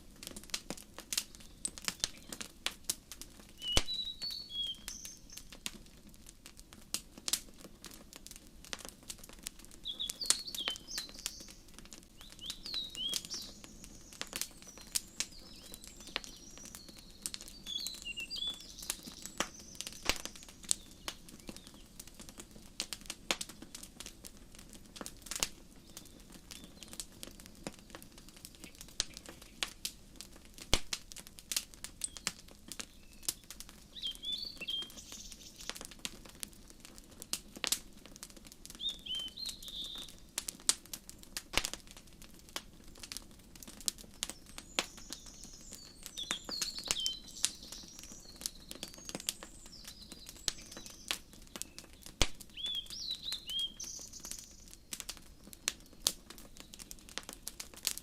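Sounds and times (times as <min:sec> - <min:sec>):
wood fire crackling and popping: 0:00.0 - 0:58.0
small birds chirping: 0:00.2 - 0:02.8, 0:03.4 - 0:06.6, 0:07.2 - 0:30.7, 0:31.5 - 0:41.4, 0:43.1 - 0:58.0.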